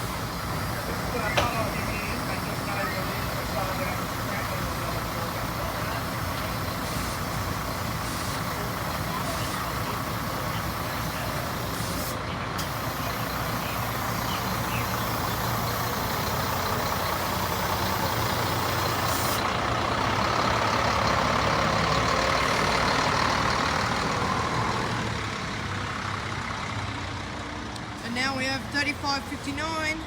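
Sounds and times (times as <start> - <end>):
bus engine driving up: 0.0 - 30.0.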